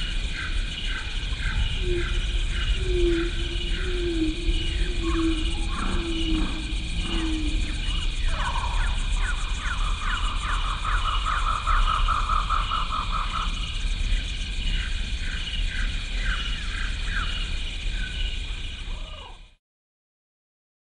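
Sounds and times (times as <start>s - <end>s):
low hum: 0.0s - 18.9s
steady high buzz: 0.0s - 19.1s.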